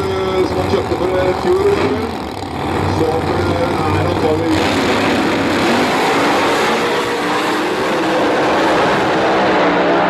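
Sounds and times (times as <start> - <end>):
drag car engines at full throttle: 0.0 - 10.0.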